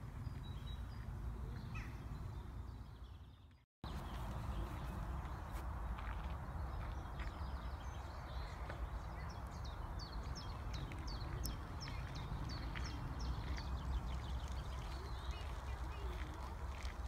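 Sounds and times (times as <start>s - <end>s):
songbird chirping: 0.1s - 17.0s.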